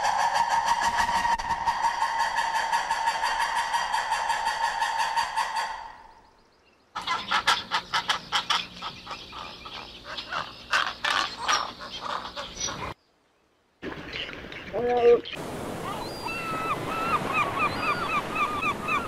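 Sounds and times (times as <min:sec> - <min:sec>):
fowl calling: 0:00.0 - 0:06.2, 0:06.9 - 0:13.0, 0:14.8 - 0:19.0.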